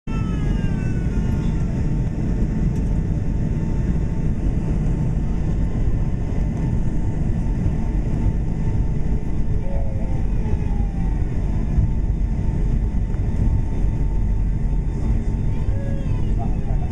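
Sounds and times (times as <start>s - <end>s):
jet engines rumbling: 0.1s - 16.9s.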